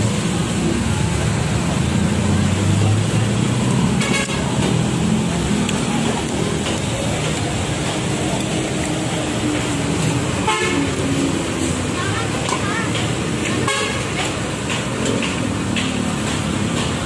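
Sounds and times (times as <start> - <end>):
vehicle engines humming: 0.0 - 17.0.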